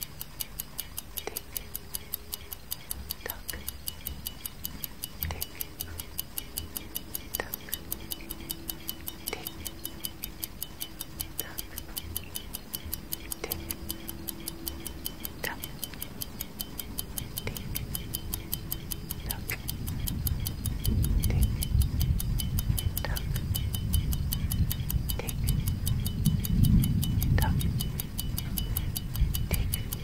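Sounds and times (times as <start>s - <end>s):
clock ticking: 0.0s - 30.0s.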